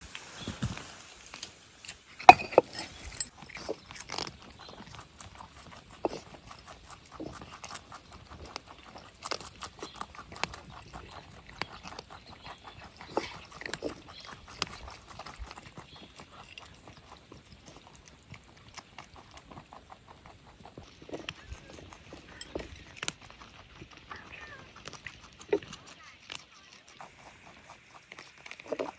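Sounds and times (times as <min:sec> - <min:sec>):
rabbits crunching food: 0:00.0 - 0:28.9.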